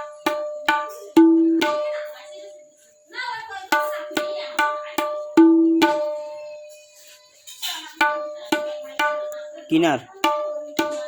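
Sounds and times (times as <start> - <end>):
tabla strokes ringing: 0.0 - 2.7, 3.6 - 11.0.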